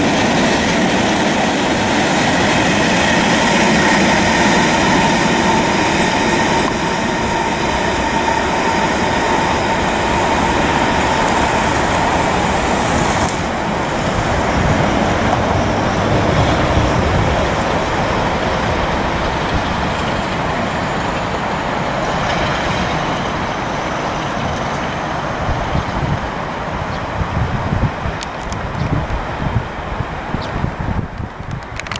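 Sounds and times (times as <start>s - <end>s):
train wheels rumbling on rail: 0.0s - 31.9s.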